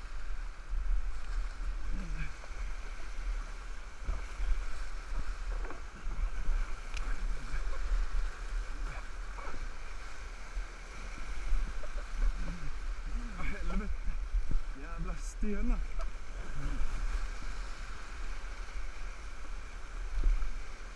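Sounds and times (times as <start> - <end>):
wind buffeting: 0.0 - 20.7
paddle strokes splashing: 0.0 - 20.9.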